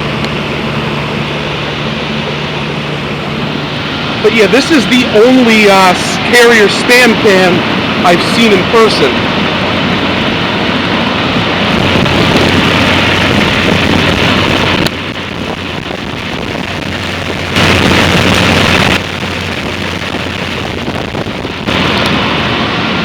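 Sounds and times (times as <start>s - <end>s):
condenser fan whoosh: 0.0s - 23.0s
low compressor hum: 0.0s - 23.0s.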